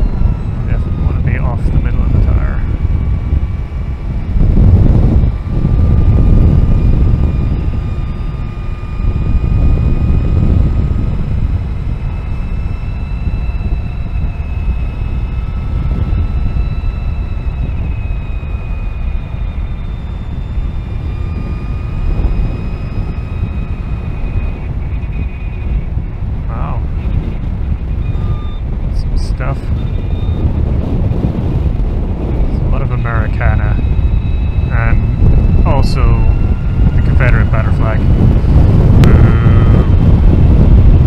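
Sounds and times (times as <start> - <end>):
electric motor whine: 0.0 - 41.0
wind and road noise rumble: 0.0 - 41.0.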